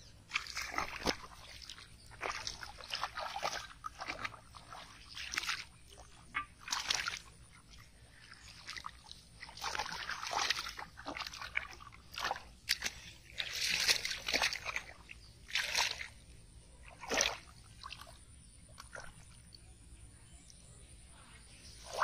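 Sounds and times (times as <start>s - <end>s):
splashing in muddy water: 0.0s - 19.8s, 21.6s - 22.0s.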